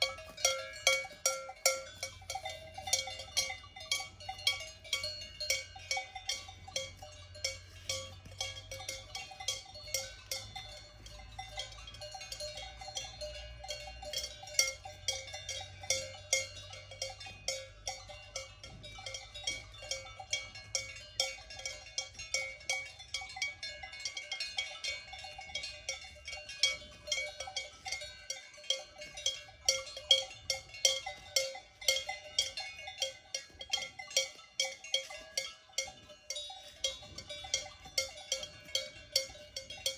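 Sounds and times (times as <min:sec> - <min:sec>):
cowbells clanking: 0:00.0 - 0:39.9.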